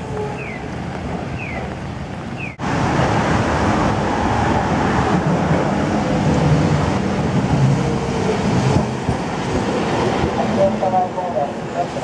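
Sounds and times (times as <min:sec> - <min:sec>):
traffic on wet street: 0:00.0 - 0:12.0.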